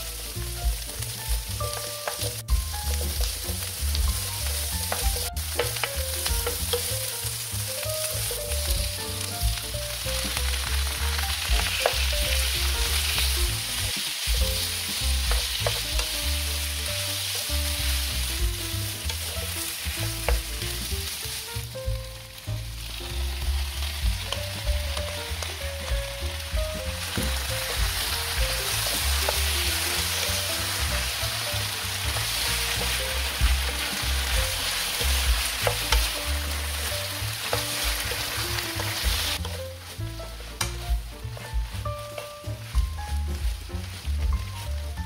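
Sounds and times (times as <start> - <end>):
food sizzling in frying pan: 0.0 - 45.0
wooden spoon stirring: 0.1 - 21.4, 23.4 - 45.0.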